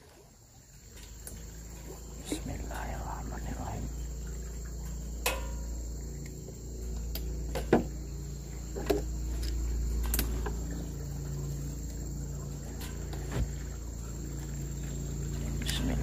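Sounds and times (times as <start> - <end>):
insects chirring: 0.0 - 16.0
low steady hum: 0.0 - 16.0.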